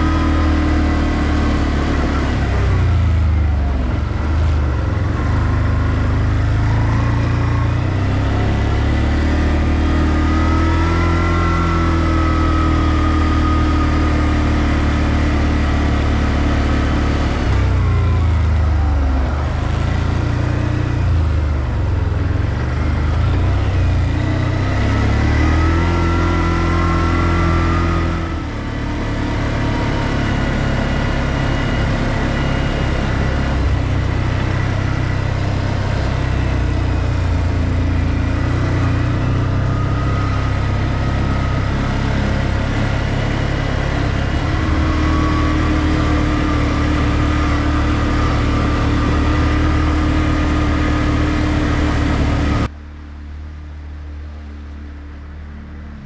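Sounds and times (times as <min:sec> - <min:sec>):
atv engine revving: 0:00.0 - 0:52.8.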